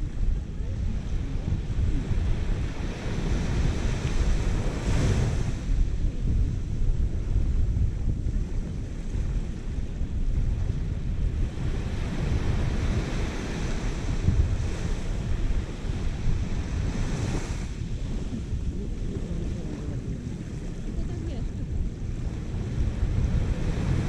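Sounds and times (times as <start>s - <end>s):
small waves washing on beach: 0.0s - 24.0s
wind buffeting microphone: 0.0s - 24.0s.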